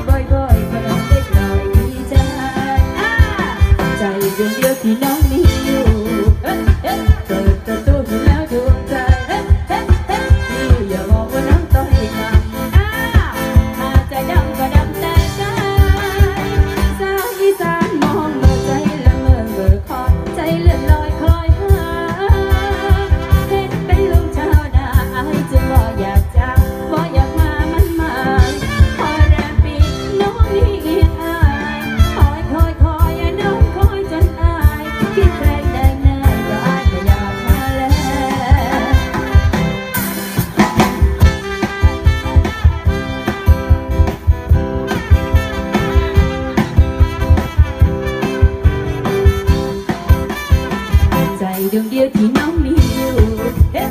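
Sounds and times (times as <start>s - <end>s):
person singing: 0.0s - 40.0s, 49.6s - 53.9s
drum kit dance beat: 0.1s - 53.9s.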